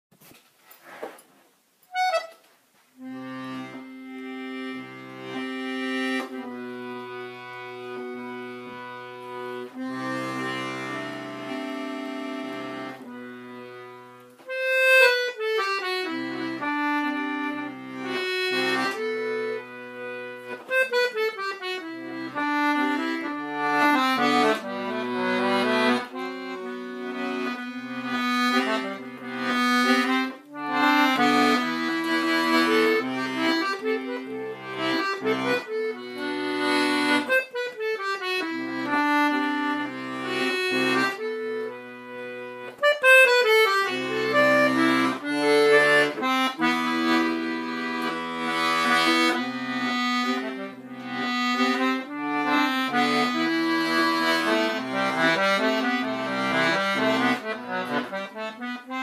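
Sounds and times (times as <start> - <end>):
button accordion melody: 1.9 - 59.0.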